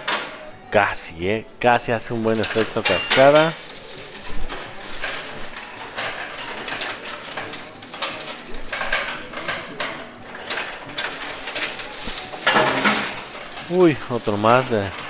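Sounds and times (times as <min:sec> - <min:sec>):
coins clinking in a coin pusher: 0:01.8 - 0:15.0.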